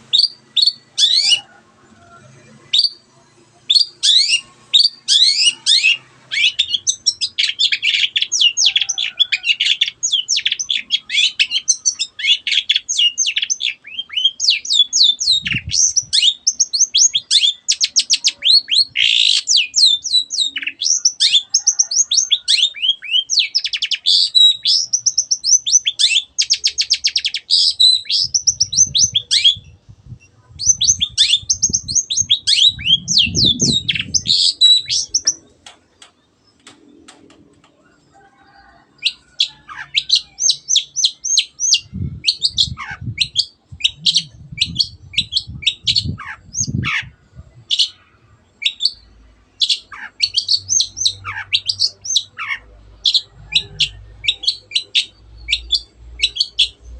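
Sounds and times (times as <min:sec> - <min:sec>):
bird trilling: 0:00.0 - 0:03.0, 0:03.7 - 0:36.0, 0:38.5 - 0:56.9
bird singing chirps and whistles: 0:00.1 - 0:01.5, 0:03.7 - 0:35.5, 0:39.1 - 0:48.0, 0:48.6 - 0:49.0, 0:49.6 - 0:56.8.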